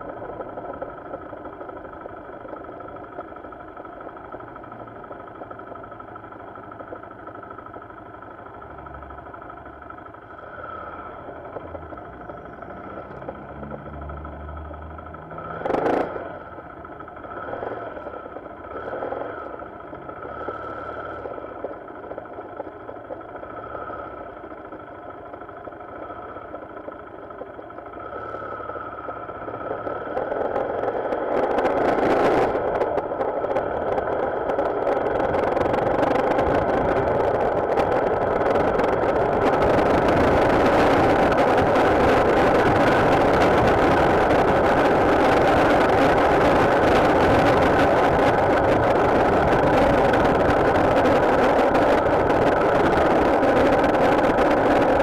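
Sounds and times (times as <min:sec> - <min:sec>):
motorcycle engine: 0:00.0 - 0:55.0
road noise: 0:00.0 - 0:55.0.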